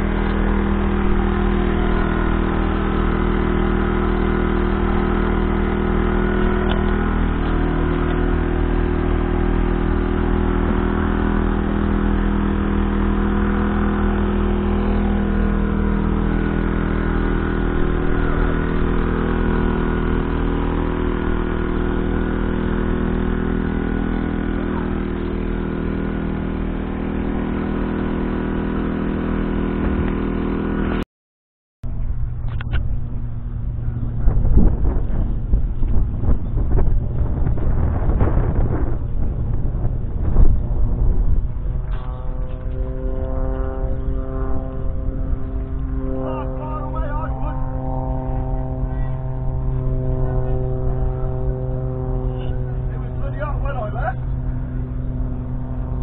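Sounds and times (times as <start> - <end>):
wind buffeting microphone: 0.0 - 27.9, 31.9 - 56.0
diesel engine running: 0.0 - 31.0, 31.8 - 56.0
tractor engine: 0.0 - 31.0, 31.8 - 56.0.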